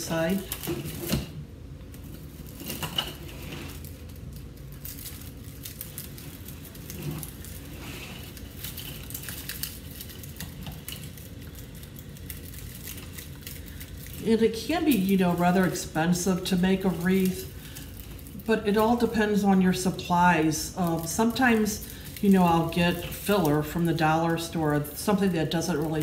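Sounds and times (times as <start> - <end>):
artificial greenery rustling: 0.0 - 26.0
steady low hum: 0.0 - 26.0.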